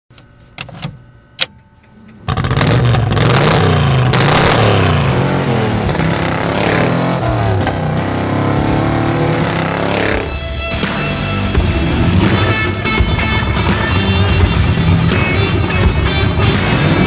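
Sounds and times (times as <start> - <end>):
car engine revving: 2.0 - 17.0.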